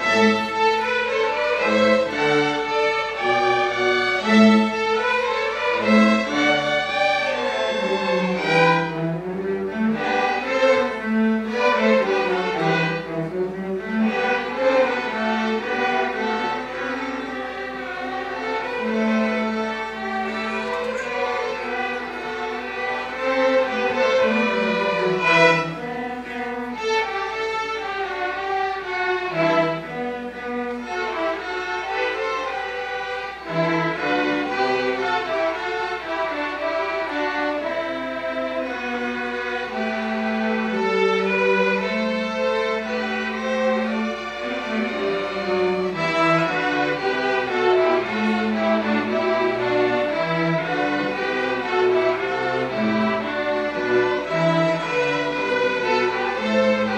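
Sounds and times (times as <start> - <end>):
string orchestra playing: 0.0 - 56.9.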